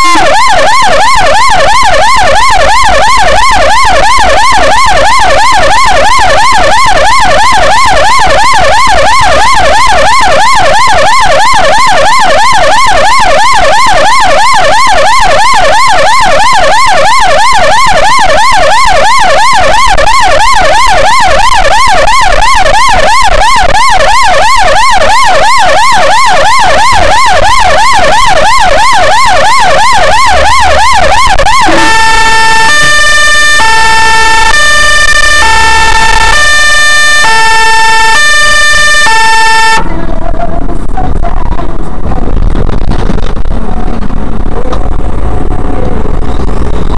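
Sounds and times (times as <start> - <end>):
ambulance siren: 0.0 - 46.9.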